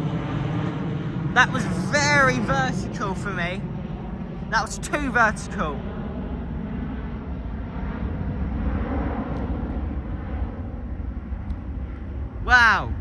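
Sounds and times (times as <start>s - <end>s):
jet airliner engines roaring: 0.0s - 13.0s.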